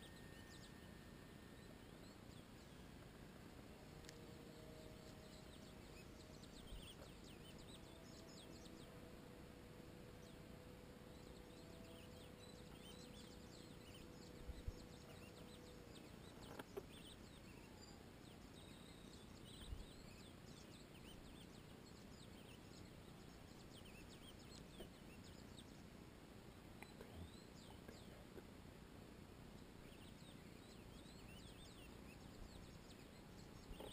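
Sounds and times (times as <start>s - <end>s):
faint steady hum: 0.0s - 33.9s
songbirds chirping: 0.0s - 33.9s.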